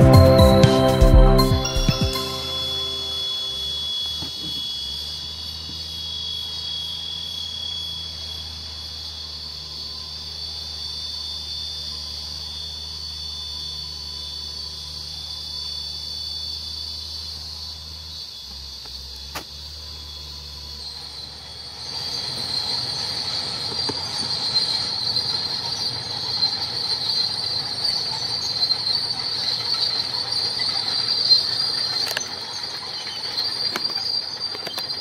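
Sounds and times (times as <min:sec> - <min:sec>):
forest insects chorus: 0:01.6 - 0:35.0.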